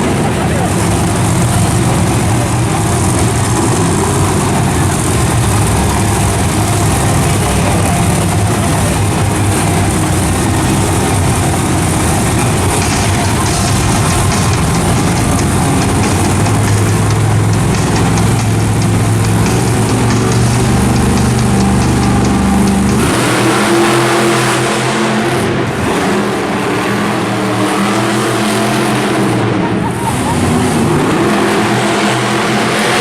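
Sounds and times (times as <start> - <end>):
monster truck engines running: 0.0 - 33.0.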